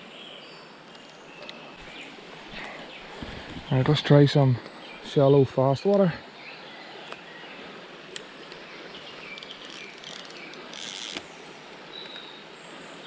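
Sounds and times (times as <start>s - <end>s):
shallow river water running: 0.0s - 13.0s.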